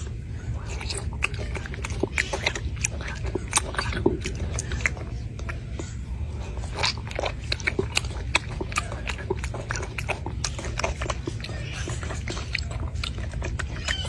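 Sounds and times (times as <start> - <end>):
monkey chewing fruit: 0.0 - 14.0
steady low hum: 0.0 - 14.0.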